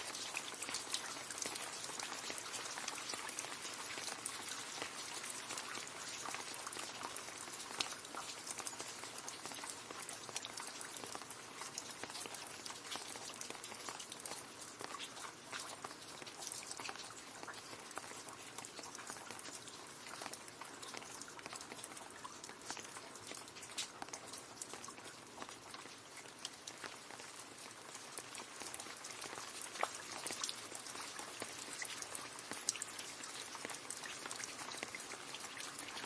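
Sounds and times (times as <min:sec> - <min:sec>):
rain splashing into a puddle: 0:00.0 - 0:36.0.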